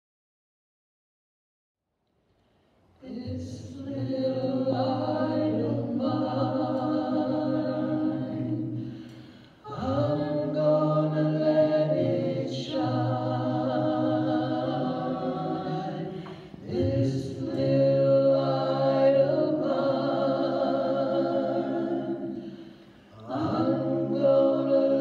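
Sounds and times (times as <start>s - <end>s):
a cappella choir singing: 2.9s - 25.0s.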